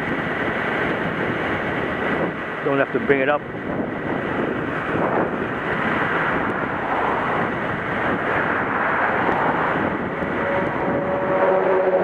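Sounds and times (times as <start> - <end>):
vehicle engine hum: 0.0 - 12.0
wind: 0.0 - 12.0.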